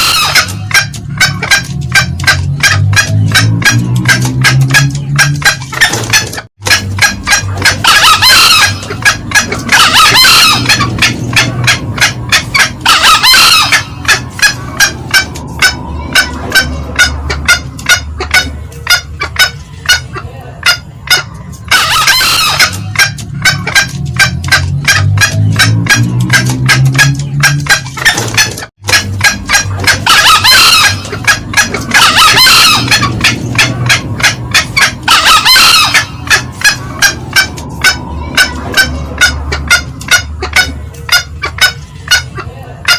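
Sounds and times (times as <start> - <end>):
junglefowl clucks and calls: 0.0 - 42.9.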